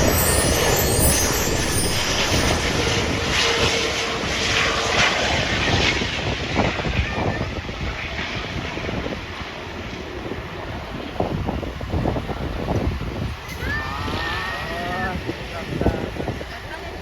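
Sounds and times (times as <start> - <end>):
jet airliner passing: 0.0 - 17.0.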